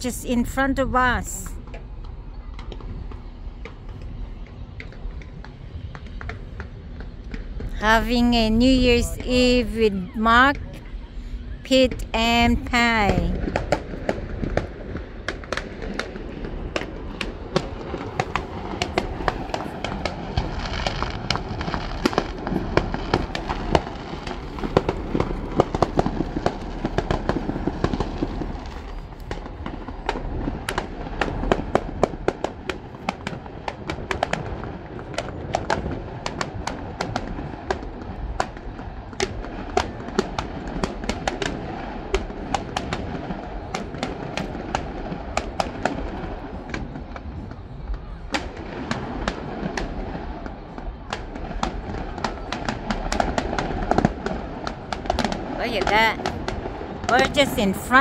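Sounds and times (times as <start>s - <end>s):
fireworks bangs and crackling pops: 0.0s - 9.6s, 11.7s - 58.0s.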